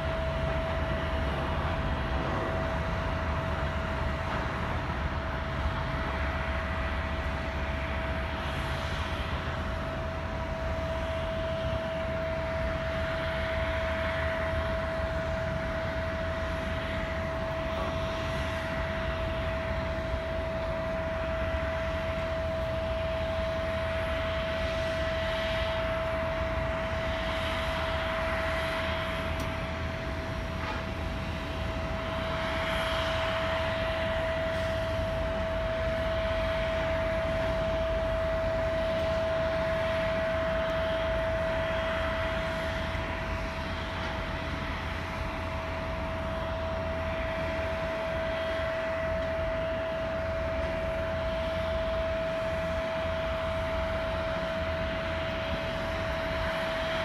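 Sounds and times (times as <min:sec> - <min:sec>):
airliner jet noise with whine: 0:00.0 - 0:57.0.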